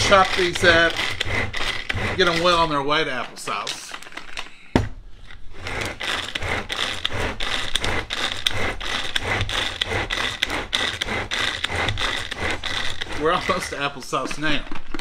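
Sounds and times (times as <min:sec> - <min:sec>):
food chopper scraping whirr: 0:00.0 - 0:04.1, 0:05.3 - 0:14.6.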